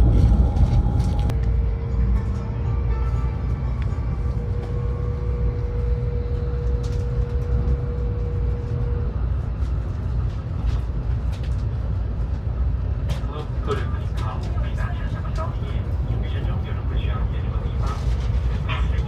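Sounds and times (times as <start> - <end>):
train cabin rumble: 0.0 - 19.0.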